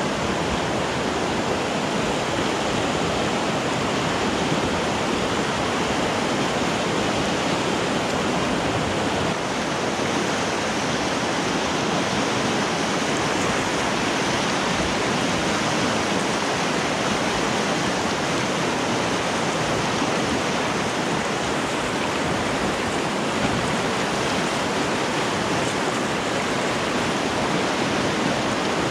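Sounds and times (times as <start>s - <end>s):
whitewater rushing: 0.0s - 28.9s.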